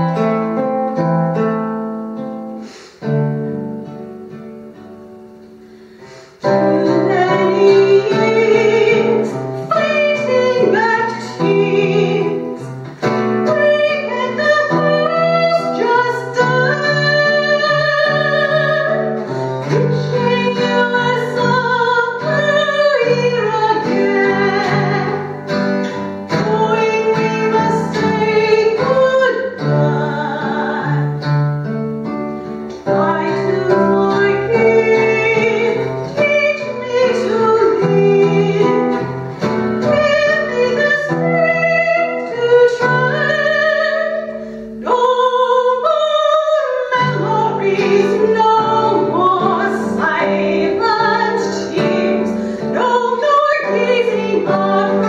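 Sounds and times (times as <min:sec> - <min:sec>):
acoustic guitar: 0:00.0 - 0:55.0
woman singing a slow ballad: 0:06.1 - 0:31.3, 0:32.8 - 0:55.0.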